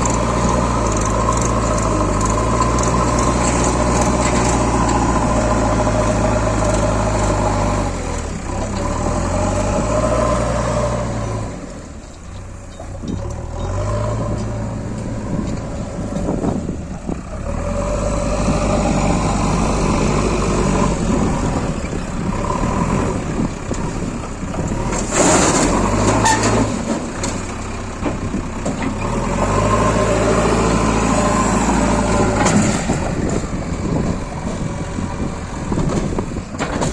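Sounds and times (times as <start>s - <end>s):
heavy diesel engines running: 0.0s - 36.9s.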